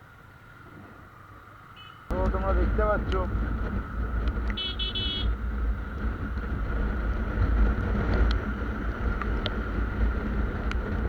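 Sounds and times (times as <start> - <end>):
wind rumbling on microphone: 0.5 - 11.0
motorcycle running: 2.1 - 11.0.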